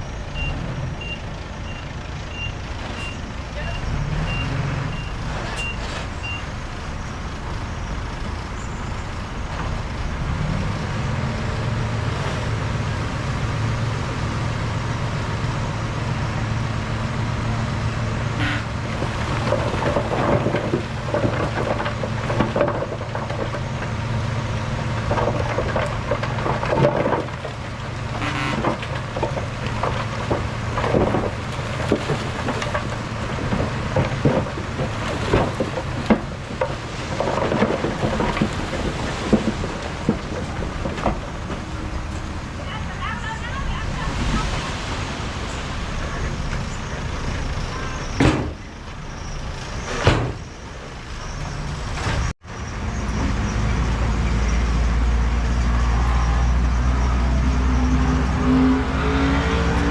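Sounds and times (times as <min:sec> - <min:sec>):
diesel machinery running: 0:00.0 - 0:59.9.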